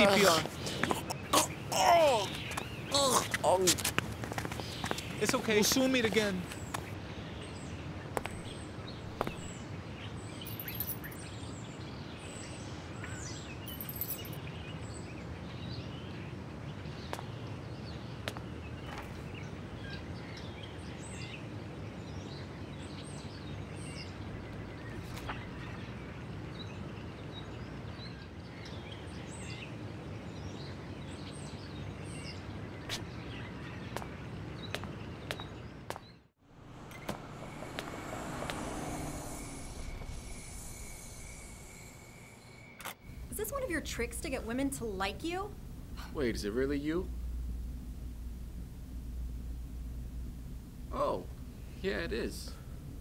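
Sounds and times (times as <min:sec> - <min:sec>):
small birds chirping: 0:00.0 - 0:47.1
low hum of city traffic: 0:00.0 - 0:53.0.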